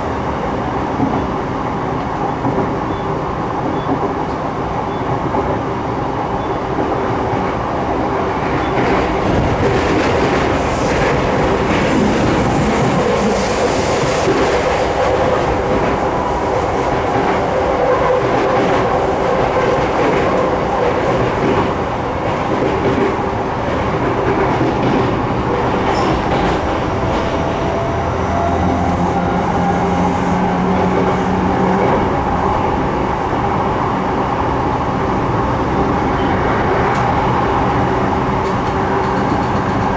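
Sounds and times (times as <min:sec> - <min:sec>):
train rolling noise: 0:00.0 - 0:39.9.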